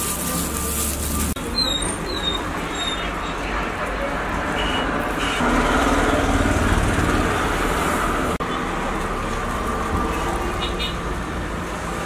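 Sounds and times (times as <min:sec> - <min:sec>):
street ambience drone: 0:00.0 - 0:12.0.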